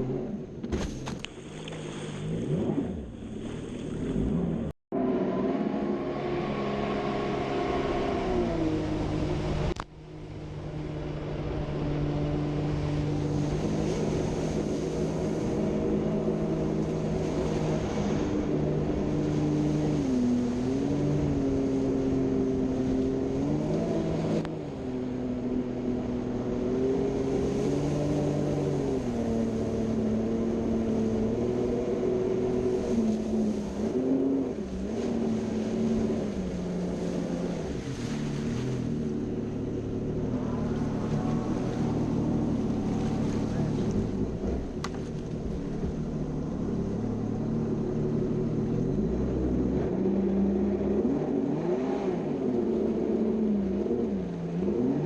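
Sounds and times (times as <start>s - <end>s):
jet ski engine running: 0.0s - 55.0s.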